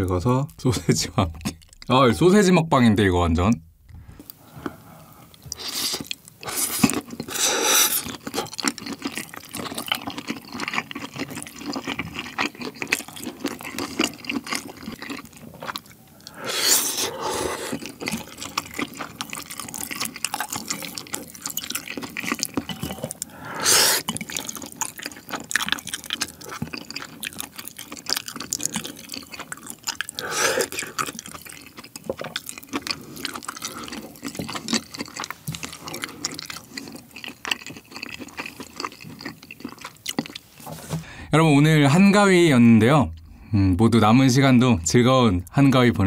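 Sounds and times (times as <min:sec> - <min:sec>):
wet chewing and mouth smacking: 0:00.5 - 0:02.0, 0:03.6 - 0:40.6.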